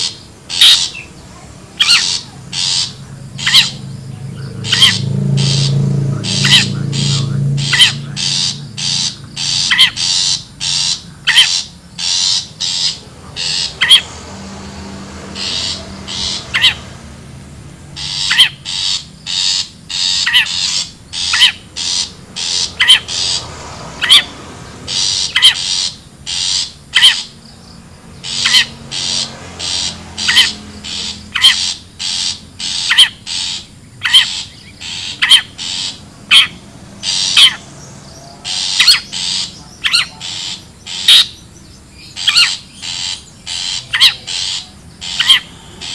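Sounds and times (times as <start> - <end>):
shrike squawking calls: 0.0 - 45.9.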